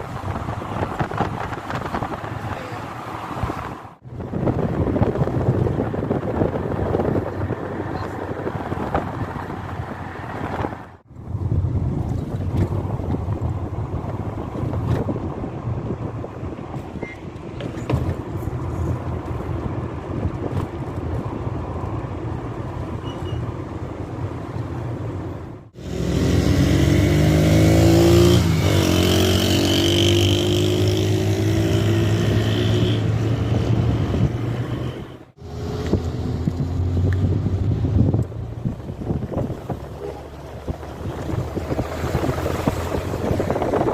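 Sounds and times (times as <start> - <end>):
vehicle engine rumbling: 0.0 - 43.9.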